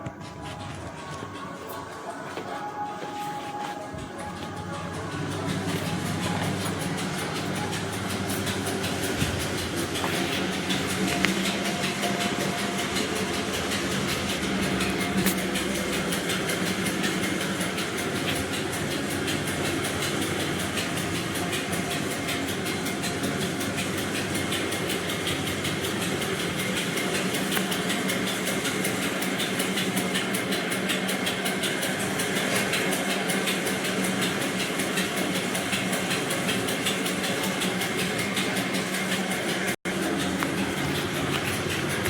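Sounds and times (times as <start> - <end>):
fast mechanical clatter: 3.9 - 42.0.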